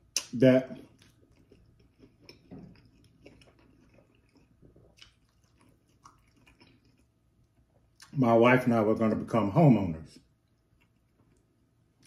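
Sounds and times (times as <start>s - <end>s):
close chewing: 0.2s - 8.2s, 10.2s - 12.0s.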